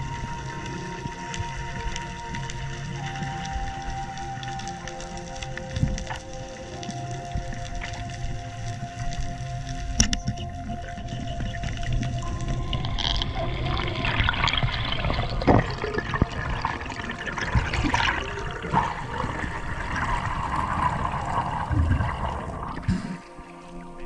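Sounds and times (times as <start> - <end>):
water rushing and bubbling: 0.0 - 24.0.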